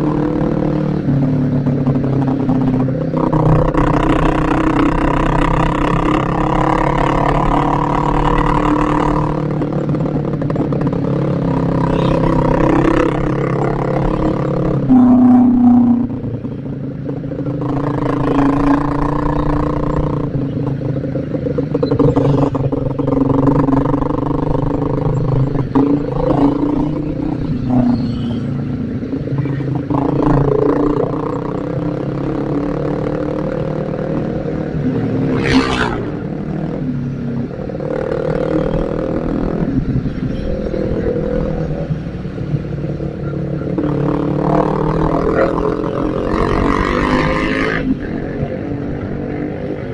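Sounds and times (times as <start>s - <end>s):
motorcycle engine running: 0.0s - 49.9s
wind rumble on microphone: 7.7s - 49.9s.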